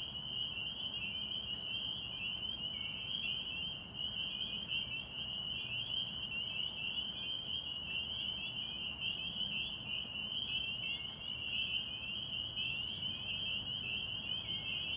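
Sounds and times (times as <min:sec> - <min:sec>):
chorus of frogs peeping: 0:00.0 - 0:14.9.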